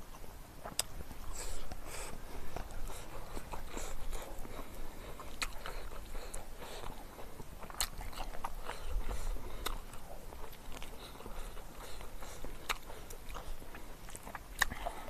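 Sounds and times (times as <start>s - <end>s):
chewing and wet mouth smacking: 0.0s - 15.0s.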